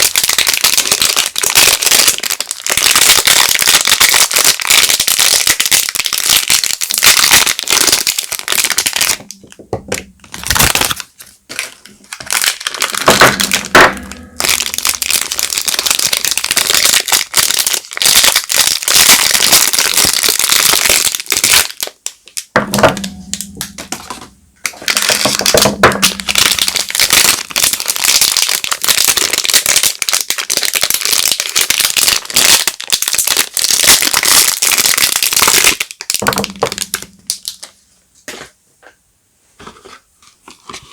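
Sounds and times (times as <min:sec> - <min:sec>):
soap packaging crinkling: 0:00.0 - 0:23.8, 0:24.6 - 0:38.5, 0:39.6 - 0:40.9.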